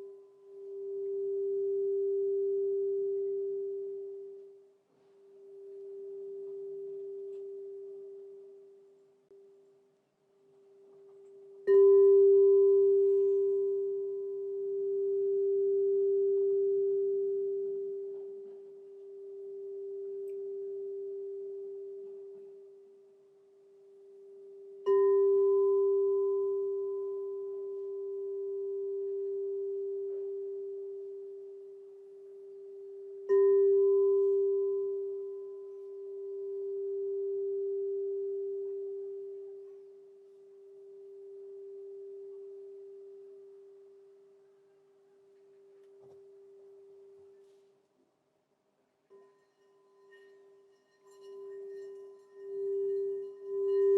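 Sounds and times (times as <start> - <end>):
crystal singing bowl ringing: 0.0 - 4.7, 5.3 - 9.0, 11.1 - 44.4, 49.1 - 53.9.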